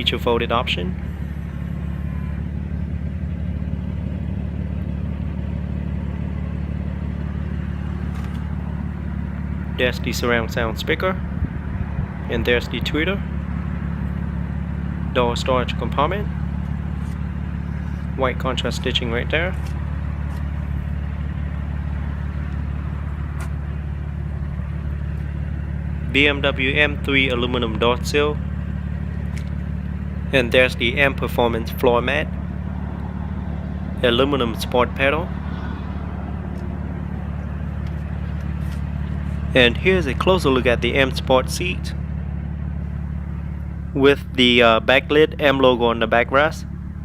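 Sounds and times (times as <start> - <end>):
car engine idling: 0.0 - 47.0
low mechanical drone: 0.0 - 47.0.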